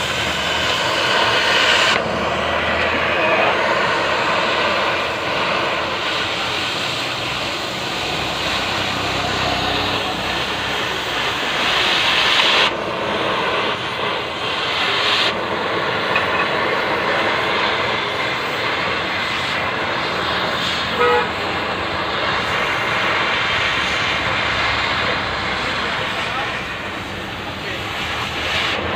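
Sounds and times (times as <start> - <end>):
gas cutting torch hissing: 0.0 - 28.9.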